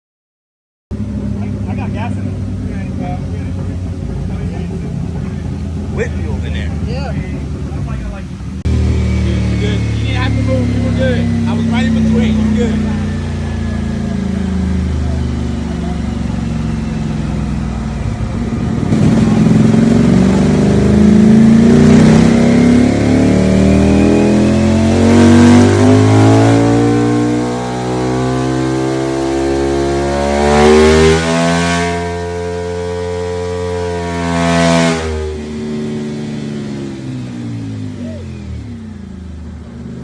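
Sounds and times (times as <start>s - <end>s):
motorcycle engine revving: 0.9s - 40.0s.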